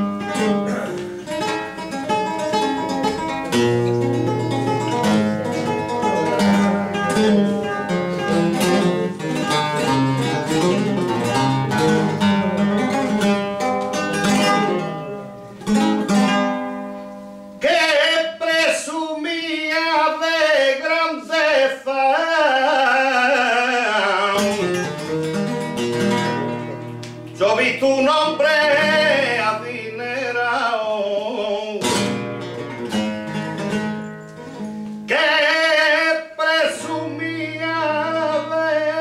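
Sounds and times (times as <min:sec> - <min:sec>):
flamenco guitar playing: 0:00.0 - 0:39.0.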